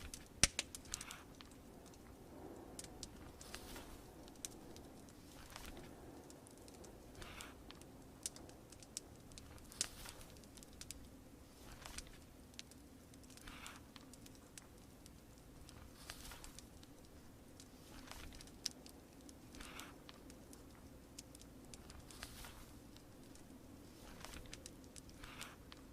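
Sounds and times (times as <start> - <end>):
fire crackling and popping: 0.0 - 25.9
rain patter: 0.0 - 25.9.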